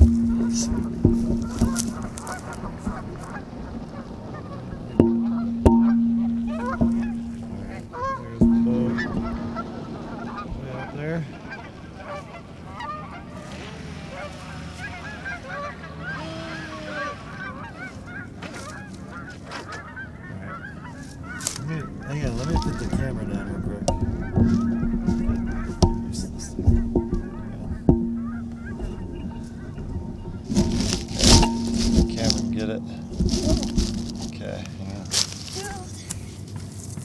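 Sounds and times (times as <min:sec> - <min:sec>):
geese honking: 0:00.0 - 0:35.5.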